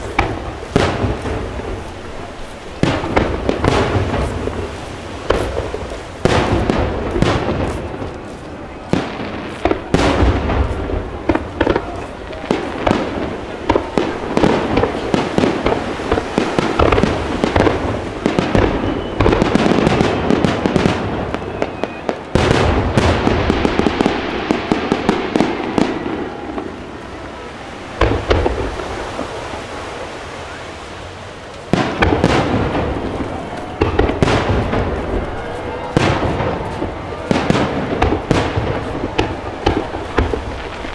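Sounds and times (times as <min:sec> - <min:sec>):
fireworks booms: 0:00.0 - 0:40.9
fireworks crackling and popping: 0:00.0 - 0:40.9.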